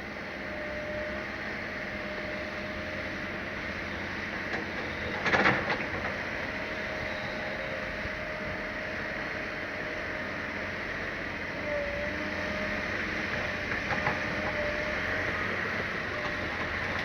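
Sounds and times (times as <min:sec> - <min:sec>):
excavator engine and hydraulics: 0:00.0 - 0:17.0.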